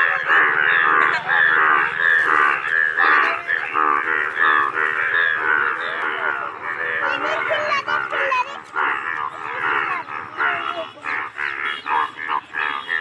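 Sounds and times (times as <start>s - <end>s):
bullfrogs croaking in chorus: 0.0s - 13.0s.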